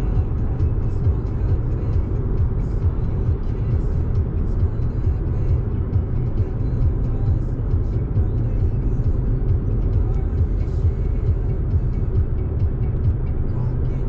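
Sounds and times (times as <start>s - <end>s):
background music: 0.0s - 14.0s
road and engine rumble: 0.0s - 14.0s.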